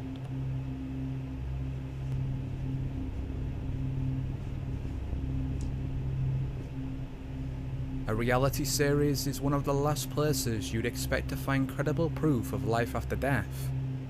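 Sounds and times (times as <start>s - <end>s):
low droning hum: 0.0s - 14.0s
low rumble: 0.0s - 14.0s.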